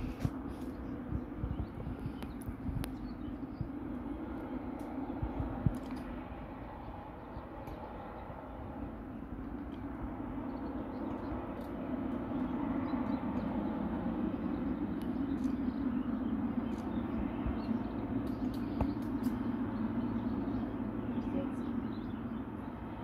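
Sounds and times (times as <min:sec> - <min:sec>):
jet engines rumbling and roaring: 0:00.0 - 0:23.0.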